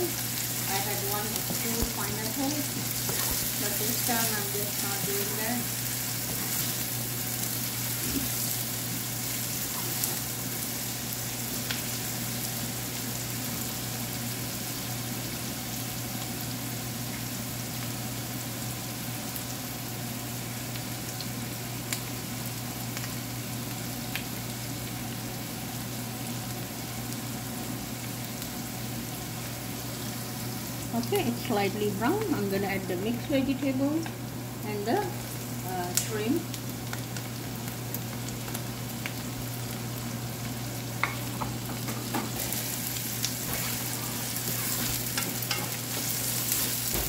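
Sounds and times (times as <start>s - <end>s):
onion sizzling in hot oil: 0.0s - 47.0s.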